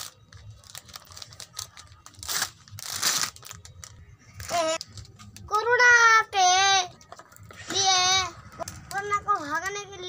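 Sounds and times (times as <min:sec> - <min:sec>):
crinkling and rustling packaging: 0:00.0 - 0:10.0.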